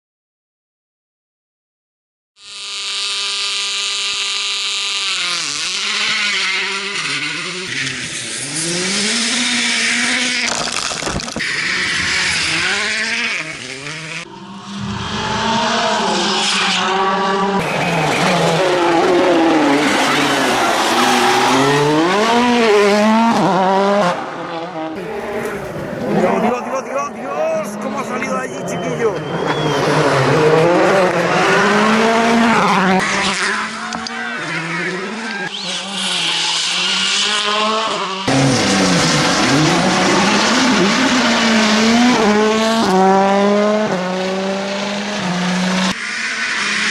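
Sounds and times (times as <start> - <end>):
rally car engine revving: 2.4 - 46.9.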